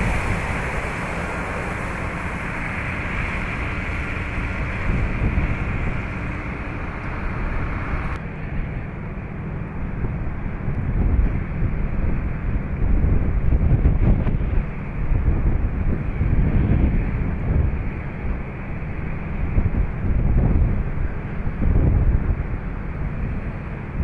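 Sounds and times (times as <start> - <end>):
rushing storm and water: 0.0 - 24.0
wind buffeting microphone: 0.0 - 24.0.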